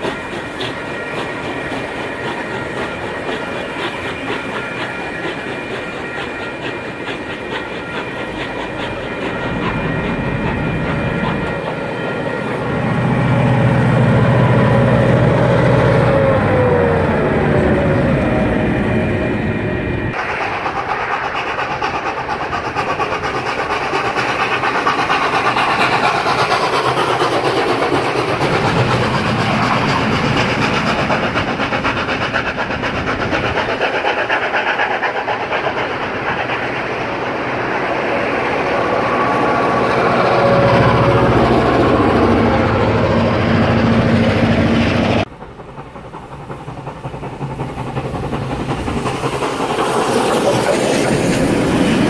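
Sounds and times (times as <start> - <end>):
locomotive engine hum passing: 0.0 - 52.0.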